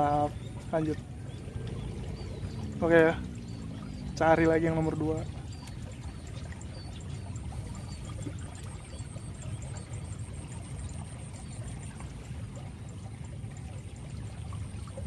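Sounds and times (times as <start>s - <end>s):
water flowing steadily: 0.0s - 15.0s.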